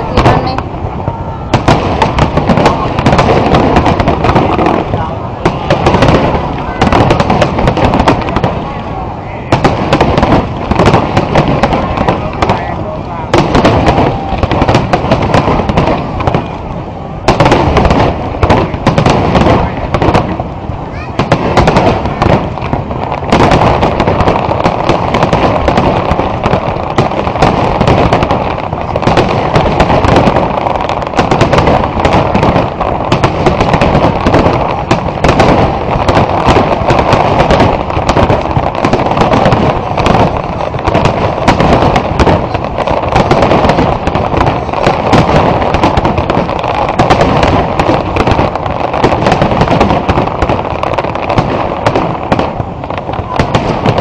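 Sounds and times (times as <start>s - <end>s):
fireworks bangs and crackle: 0.0s - 54.0s.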